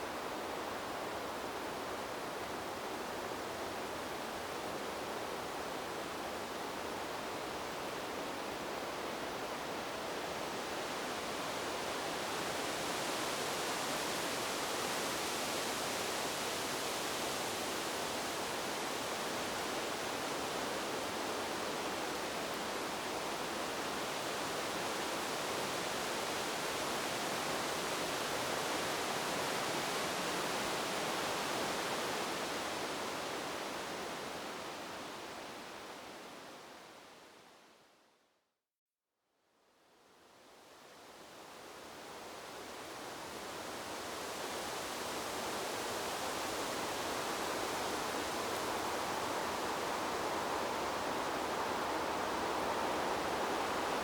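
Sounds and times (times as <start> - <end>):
wind rustling bamboo leaves: 0.0 - 38.2, 39.8 - 54.0.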